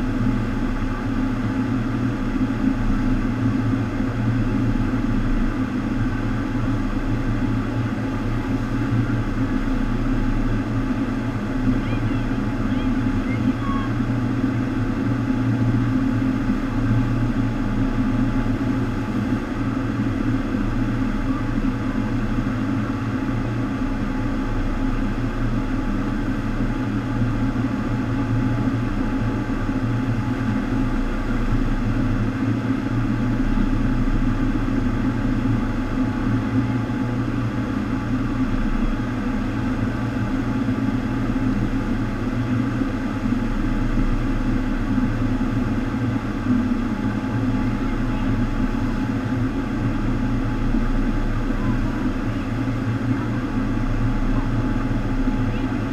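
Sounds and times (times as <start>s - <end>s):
low pump hum: 0.0s - 55.9s.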